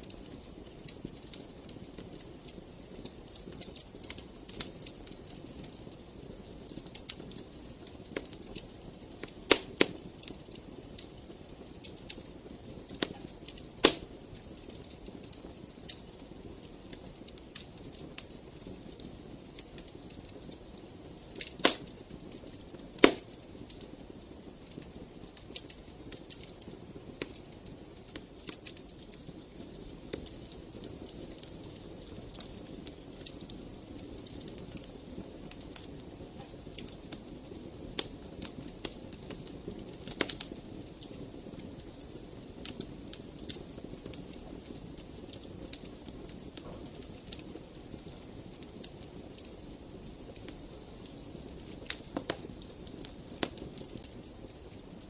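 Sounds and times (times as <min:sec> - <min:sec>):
fireplace fire crackling: 0:00.0 - 0:55.0
low rumble of flames: 0:00.0 - 0:55.0.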